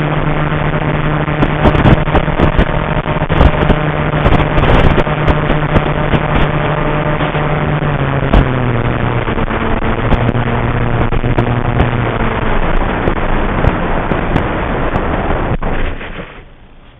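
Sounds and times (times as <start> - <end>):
electric motor and propeller droning: 0.0 - 16.4
sharp crackles: 0.0 - 16.9
wind buffeting microphone: 0.0 - 16.9.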